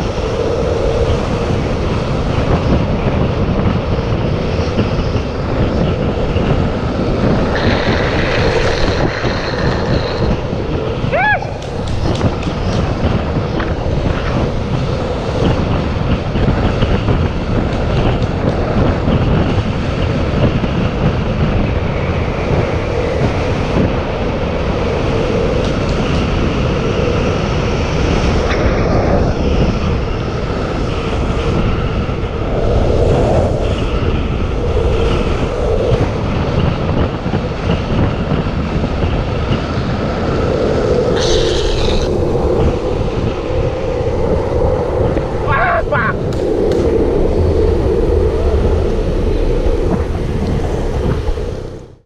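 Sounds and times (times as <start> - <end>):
longboard wheels rolling on asphalt: 0.0 - 52.0
wind buffeting microphone: 0.0 - 52.0.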